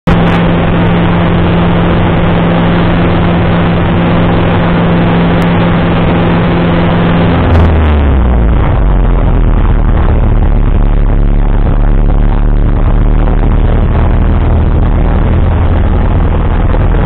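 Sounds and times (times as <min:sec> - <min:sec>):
airplane engine and propeller drone: 0:00.1 - 0:17.0.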